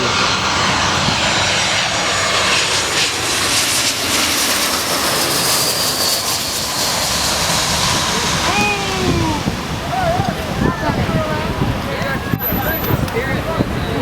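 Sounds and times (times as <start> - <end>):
jet engines roaring overhead: 0.0 - 14.0.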